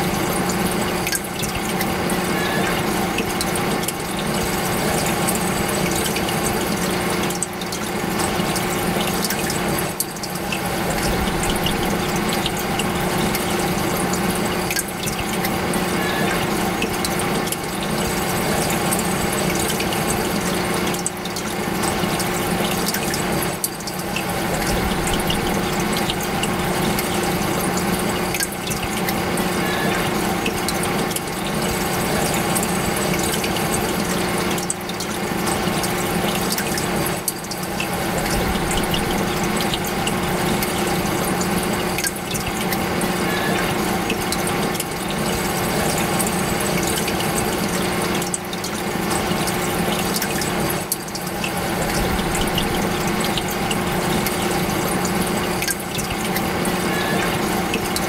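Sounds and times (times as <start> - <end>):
aquarium water running: 0.0 - 58.0
pump humming: 0.0 - 58.0.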